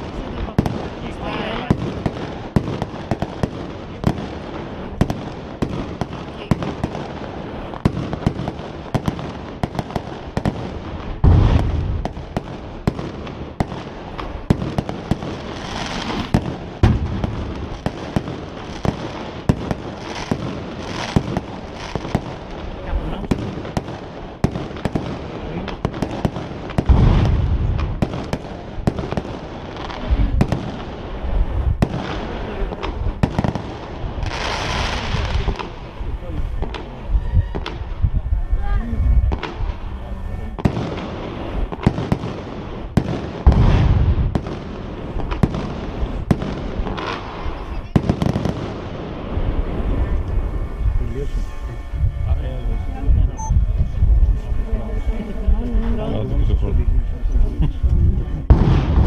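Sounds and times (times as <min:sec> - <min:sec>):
fireworks crackling: 0:00.0 - 0:59.0
fireworks low booms: 0:00.0 - 0:59.0.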